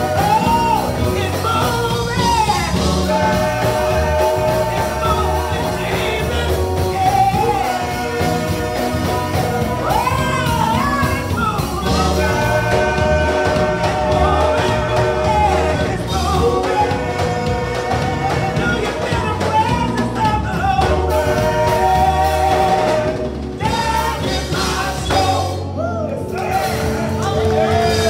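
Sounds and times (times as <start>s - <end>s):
singers singing gospel song: 0.0s - 28.0s
steady bass line: 0.0s - 28.0s.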